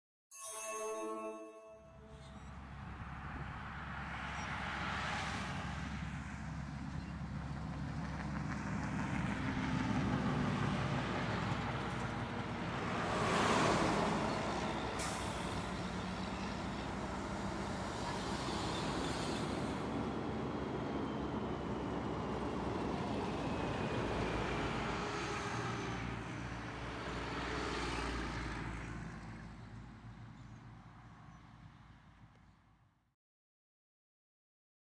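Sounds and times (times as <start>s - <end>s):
heavy trucks passing: 2.3s - 32.2s.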